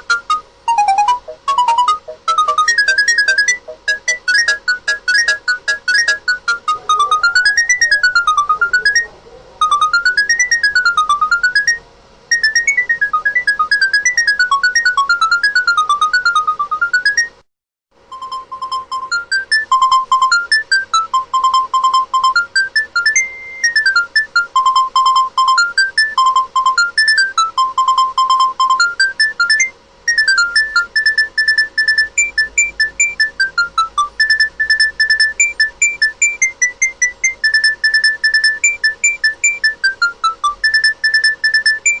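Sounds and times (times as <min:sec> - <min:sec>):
mobile phone ringtone beeping melody: 0:00.0 - 0:17.4, 0:18.1 - 0:42.0.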